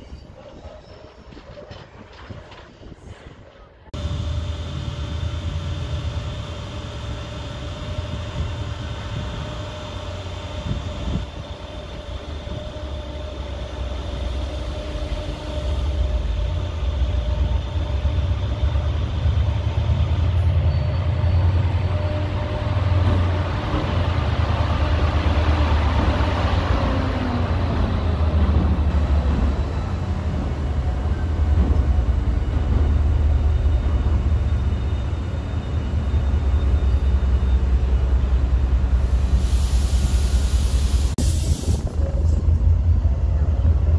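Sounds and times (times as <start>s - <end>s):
wheel and rail noise: 0.0s - 43.9s
locomotive engine drone: 4.0s - 43.9s.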